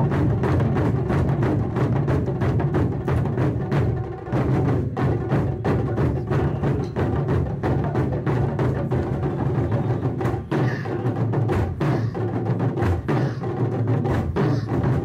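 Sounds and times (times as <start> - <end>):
taiko drums playing: 0.0 - 15.0.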